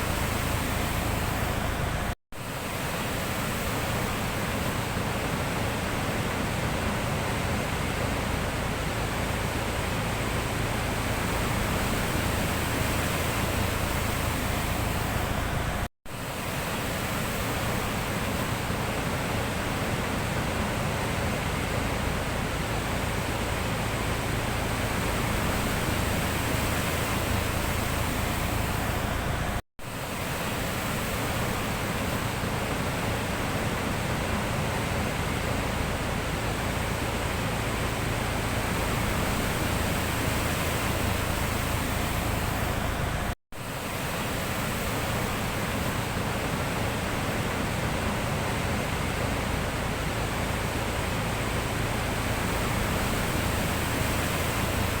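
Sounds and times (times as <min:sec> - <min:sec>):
sea rushing: 0:00.0 - 0:55.0.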